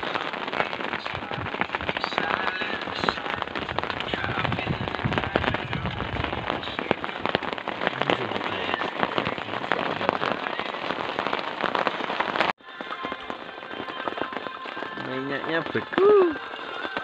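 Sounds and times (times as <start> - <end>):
rain falling: 0.0 - 17.0
raindrops hitting a surface: 0.0 - 17.0.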